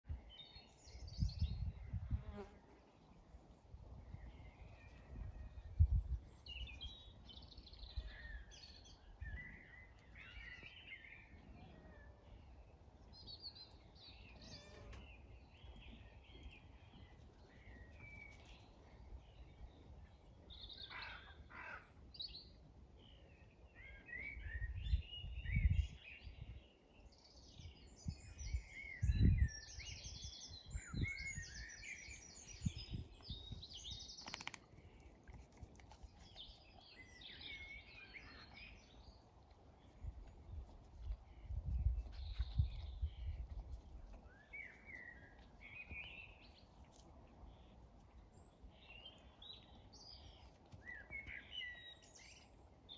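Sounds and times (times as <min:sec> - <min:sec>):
small birds chirping and trilling: 0:04.0 - 0:52.9.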